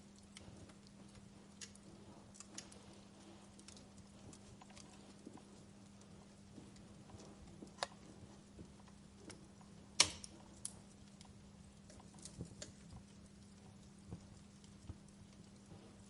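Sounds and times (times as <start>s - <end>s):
faint low hum: 0.0s - 16.0s
wood fire crackling: 0.0s - 16.0s.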